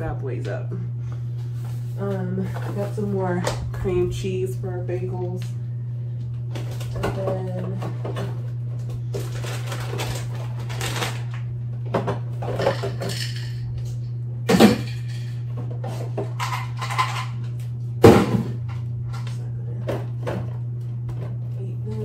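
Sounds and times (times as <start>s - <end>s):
refrigerator low hum: 0.0s - 22.0s.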